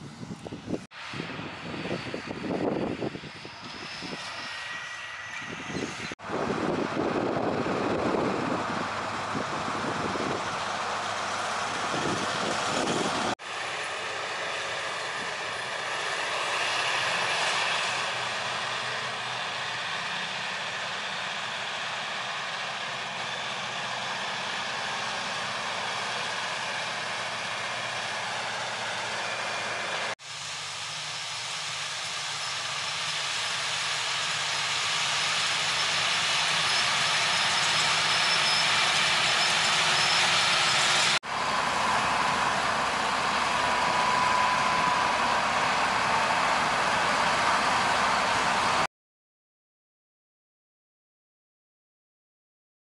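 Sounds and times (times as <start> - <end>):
tractor diesel engines working: 0.0 - 48.9.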